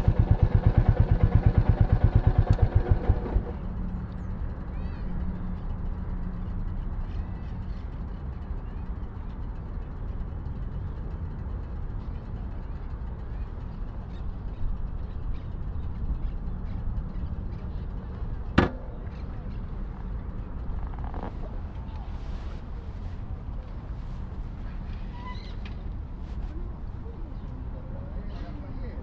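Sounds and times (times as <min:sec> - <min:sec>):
motorcycle engine rumbling: 0:00.0 - 0:29.0.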